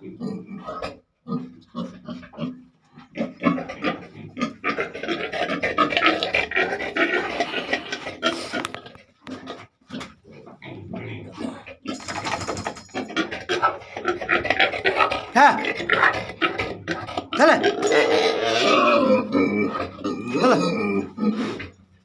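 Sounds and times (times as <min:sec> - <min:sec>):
pigs grunting and squealing: 0:00.0 - 0:22.0.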